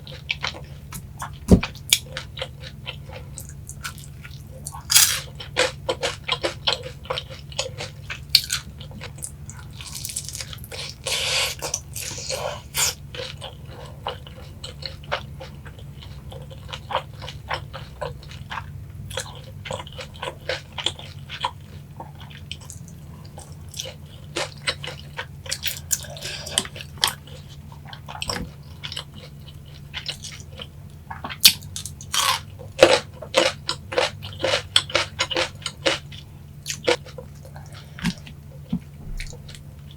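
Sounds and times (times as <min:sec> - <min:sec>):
chewing crunchy fried chicken: 0:00.0 - 0:39.9.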